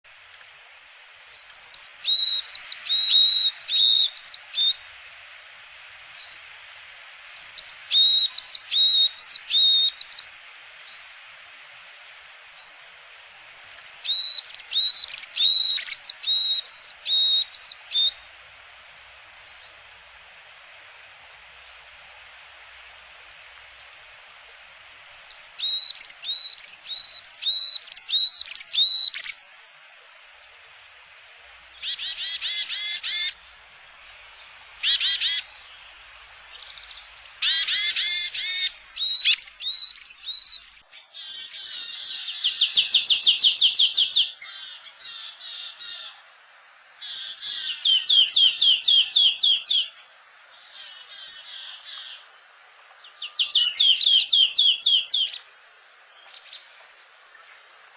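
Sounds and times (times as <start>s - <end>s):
songbirds chirping and trilling: 0.1s - 57.9s.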